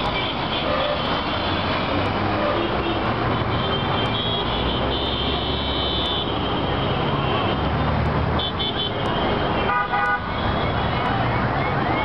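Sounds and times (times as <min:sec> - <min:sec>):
car horn: 0:00.0 - 0:01.7, 0:02.3 - 0:07.7, 0:08.4 - 0:10.9
road noise: 0:00.0 - 0:12.0.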